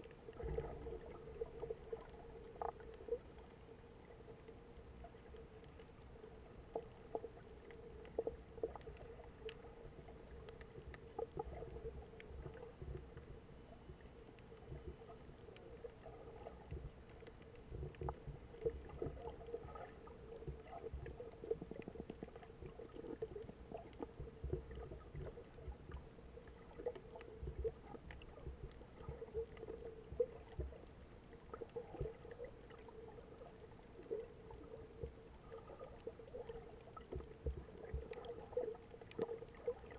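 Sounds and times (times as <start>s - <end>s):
small scattered clicks: 0.0s - 39.9s
underwater water rumble: 0.0s - 39.9s.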